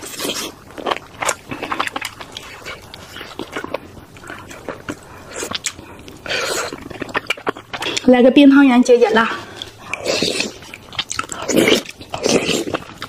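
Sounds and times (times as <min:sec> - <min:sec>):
mouth smacks and clicks: 0:00.0 - 0:08.1, 0:09.6 - 0:13.0
wet chewing and slurping: 0:00.0 - 0:08.1, 0:09.3 - 0:13.0.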